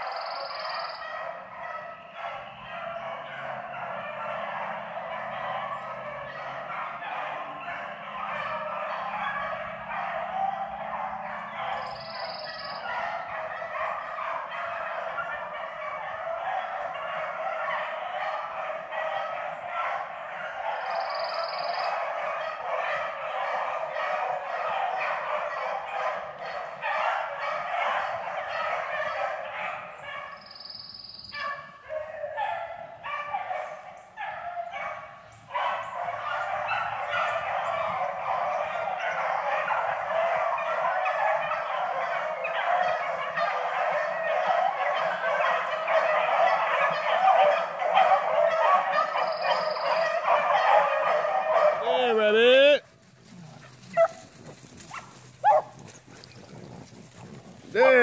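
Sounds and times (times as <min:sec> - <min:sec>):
dogs baying and howling: 0:00.0 - 0:58.0.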